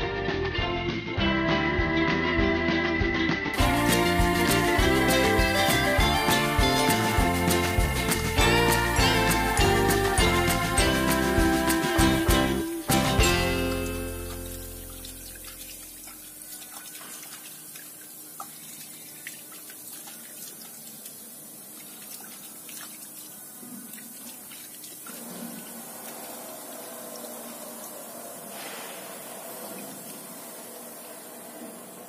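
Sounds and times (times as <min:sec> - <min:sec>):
faint hiss: 0:03.6 - 0:32.0
soapy water sloshing: 0:03.6 - 0:32.0
water dripping and splashing: 0:03.6 - 0:32.0.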